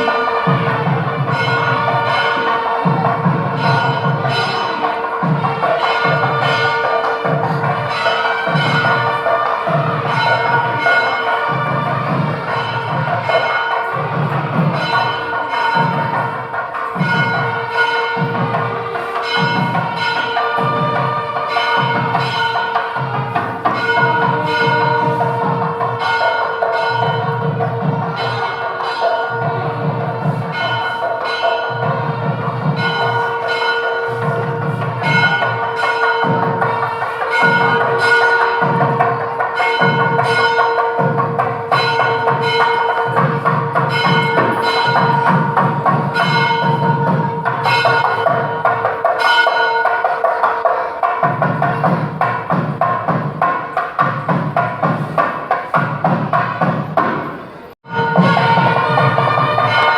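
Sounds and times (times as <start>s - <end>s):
low drum beat: 0.0s - 49.4s
bell-like tones: 0.0s - 52.9s, 57.6s - 59.9s
percussion: 0.0s - 59.9s.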